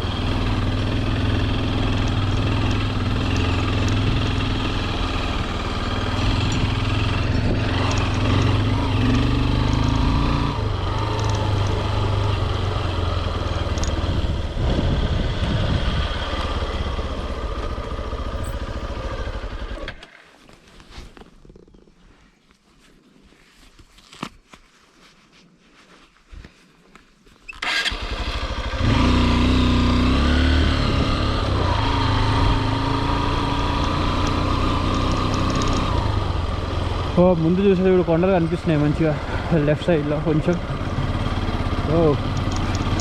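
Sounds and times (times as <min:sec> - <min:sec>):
motorcycle engine running: 0:00.0 - 0:20.0, 0:27.7 - 0:43.0.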